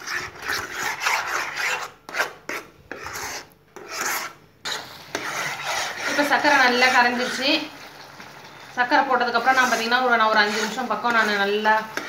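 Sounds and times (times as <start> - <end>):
ladle scraping pan bottom: 0.0 - 12.0.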